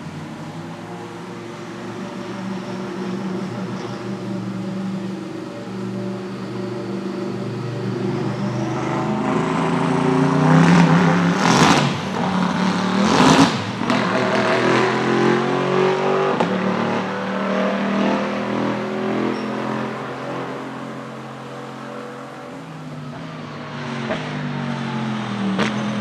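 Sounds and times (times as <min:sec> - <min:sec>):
race car engine passing: 0:00.0 - 0:26.0.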